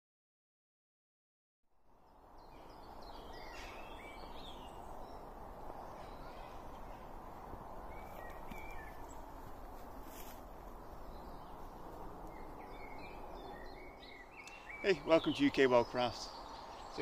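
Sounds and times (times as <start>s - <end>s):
low rush of background noise: 1.8s - 17.0s
small birds chirping: 2.0s - 17.0s.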